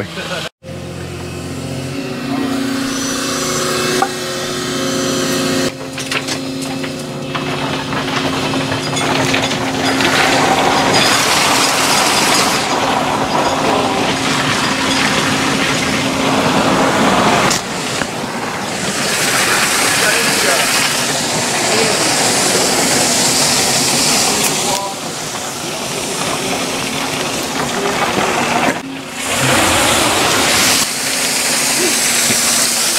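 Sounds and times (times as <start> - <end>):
excavator engine running: 0.0 - 32.9
gravel pouring and rattling: 5.8 - 32.9.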